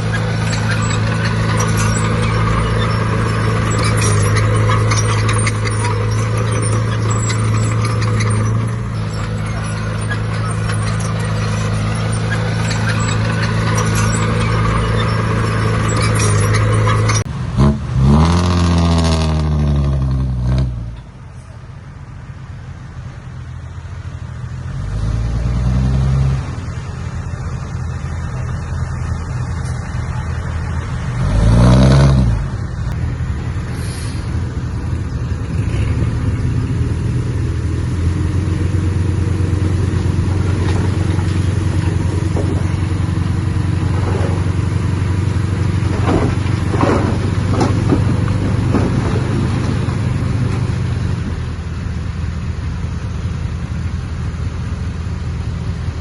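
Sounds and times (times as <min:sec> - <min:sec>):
heavy diesel engine revving: 0:00.0 - 0:21.0, 0:24.6 - 0:53.7.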